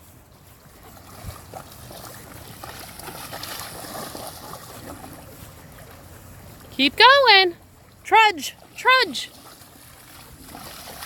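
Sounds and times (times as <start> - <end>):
boots splashing through puddle: 0.0 - 6.7, 8.5 - 11.0.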